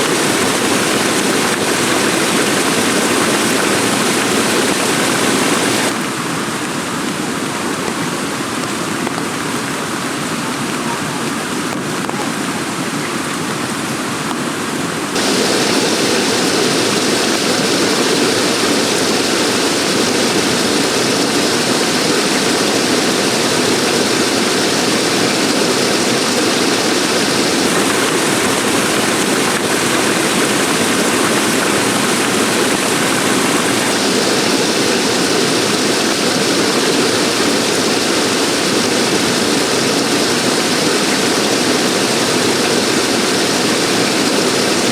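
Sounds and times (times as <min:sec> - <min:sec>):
heavy rain pouring: 0:00.0 - 0:14.2, 0:15.1 - 0:44.9.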